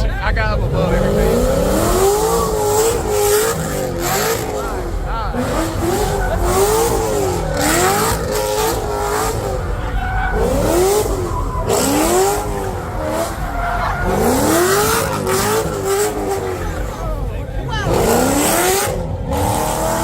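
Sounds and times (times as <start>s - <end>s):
car engine revving: 0.0s - 20.0s
tyres squealing: 0.6s - 20.0s.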